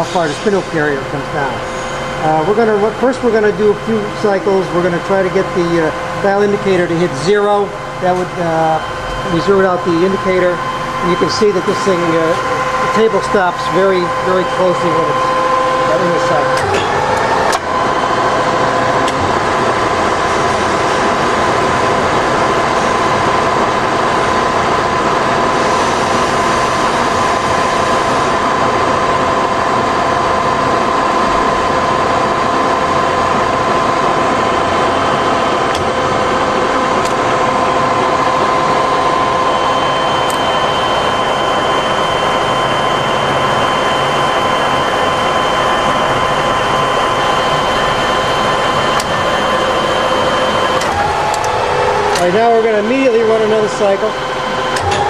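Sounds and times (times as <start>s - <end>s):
high-pitched whine: 0.0s - 55.0s
milling machine drone: 0.0s - 55.0s.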